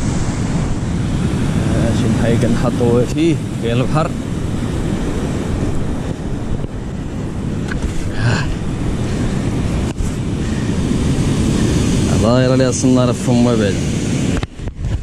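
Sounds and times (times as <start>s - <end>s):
rough surf: 0.0s - 15.0s
wind buffeting microphone: 0.0s - 15.0s.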